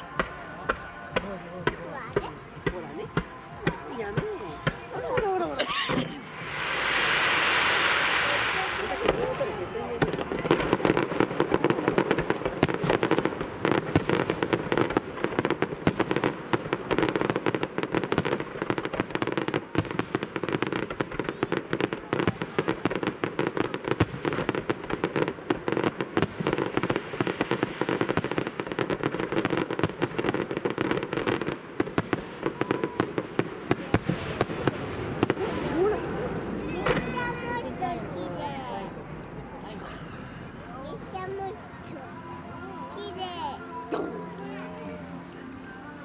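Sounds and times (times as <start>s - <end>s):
fireworks crackling bursts: 0.0s - 46.0s.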